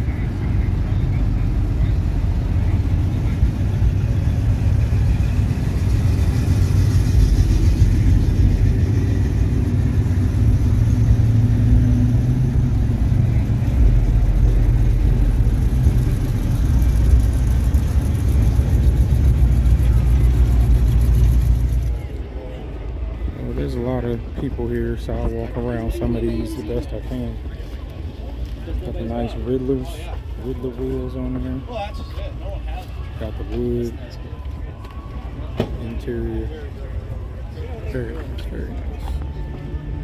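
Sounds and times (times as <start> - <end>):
car engines rumbling past: 0.0 - 40.0.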